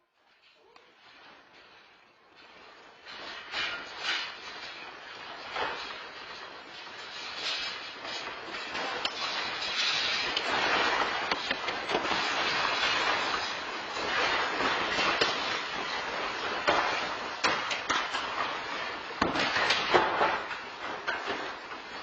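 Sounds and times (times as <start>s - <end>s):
knocks and clatters: 0.2s - 22.0s
objects rattling: 0.2s - 22.0s.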